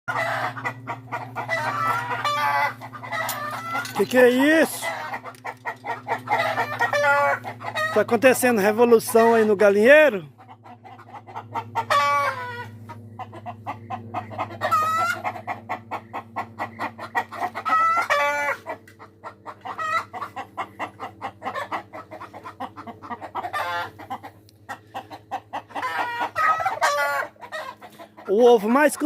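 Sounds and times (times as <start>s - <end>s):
hens cackling: 0.1s - 29.0s
steady low hum: 0.1s - 29.0s.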